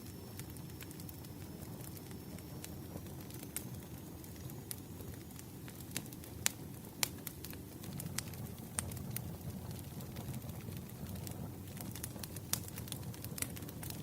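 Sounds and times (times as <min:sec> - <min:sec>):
fire low rumble: 0:00.0 - 0:14.0
firewood crackles and pops: 0:00.0 - 0:14.0.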